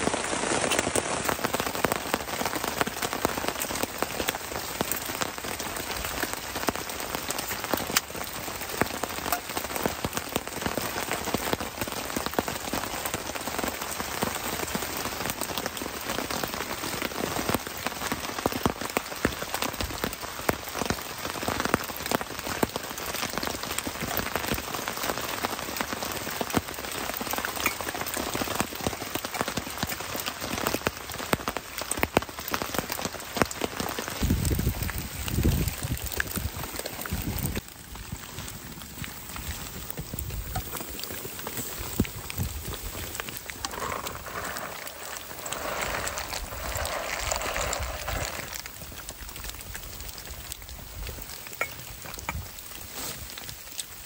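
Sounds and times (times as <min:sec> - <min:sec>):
rain pattering on a tarp: 0:00.0 - 0:54.0.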